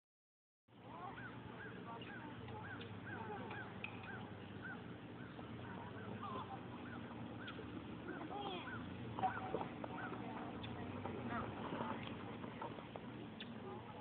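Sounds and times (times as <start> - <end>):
low steady hum: 0.7 - 14.0.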